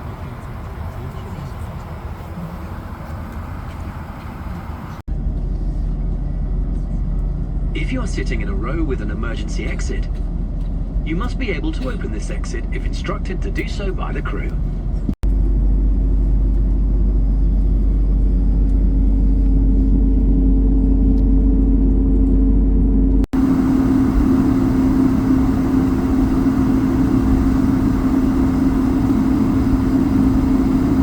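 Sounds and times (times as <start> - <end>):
turbofan engines humming: 0.0 - 31.0.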